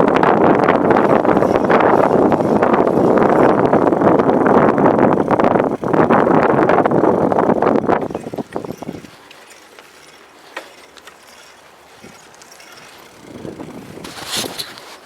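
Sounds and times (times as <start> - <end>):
bicycle freewheel ticking: 0.0 - 14.1
wind buffeting microphone: 0.0 - 15.0.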